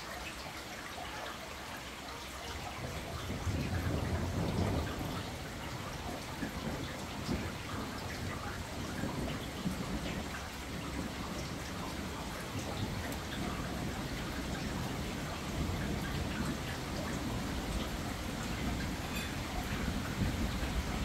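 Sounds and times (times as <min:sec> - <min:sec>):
drips ticking: 0:00.0 - 0:21.0
steady rain: 0:00.0 - 0:21.0
distant rolling thunder: 0:02.3 - 0:21.0.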